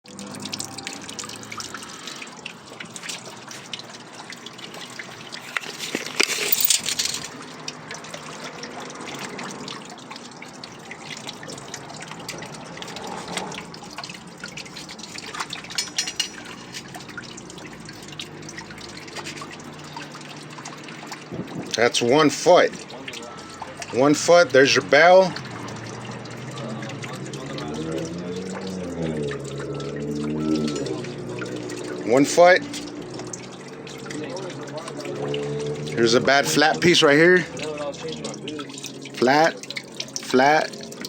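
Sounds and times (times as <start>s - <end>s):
water rushing: 0.0s - 41.0s
water trickling and dripping: 0.0s - 41.0s.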